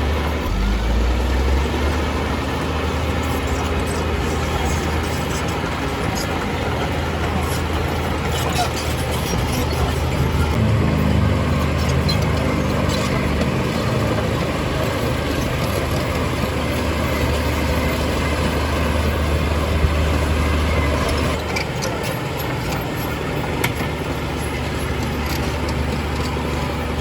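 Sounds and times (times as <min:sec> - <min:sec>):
diesel machinery engine hum: 0:00.0 - 0:27.0.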